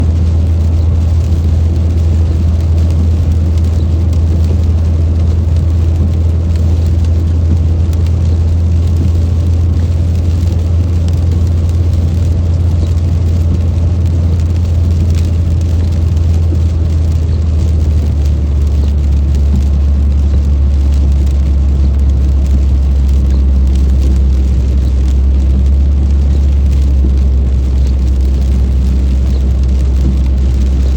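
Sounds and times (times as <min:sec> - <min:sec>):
car engine and road noise: 0:00.0 - 0:30.9
rain hiss and patter: 0:00.0 - 0:30.9.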